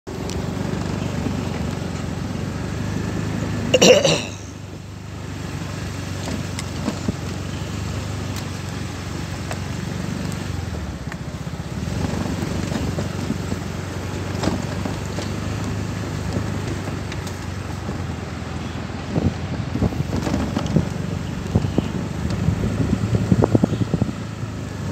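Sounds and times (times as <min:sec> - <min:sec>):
motorcycle engine running: 0:00.1 - 0:24.9.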